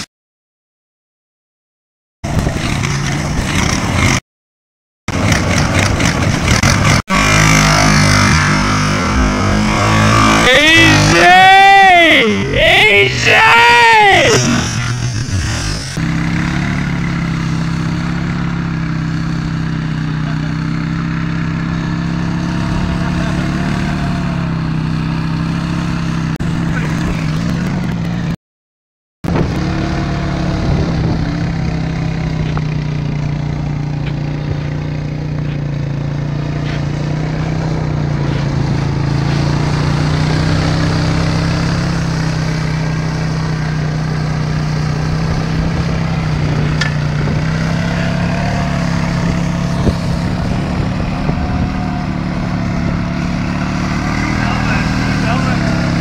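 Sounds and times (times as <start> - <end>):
quad bike engine running: 2.2 - 4.2, 5.1 - 28.4, 29.3 - 56.0.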